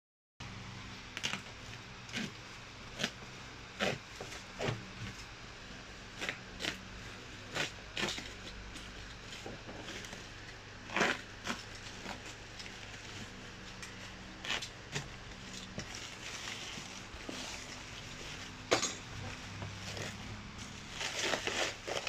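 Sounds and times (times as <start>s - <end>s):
plastic wrapping tearing and crinkling: 1.1s - 3.2s, 6.1s - 22.0s.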